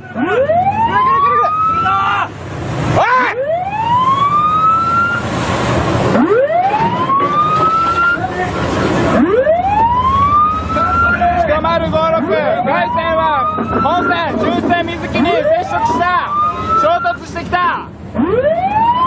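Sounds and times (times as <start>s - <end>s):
ship's siren wailing: 0.0s - 17.6s, 18.2s - 19.0s
rush of wind and water: 0.0s - 19.0s.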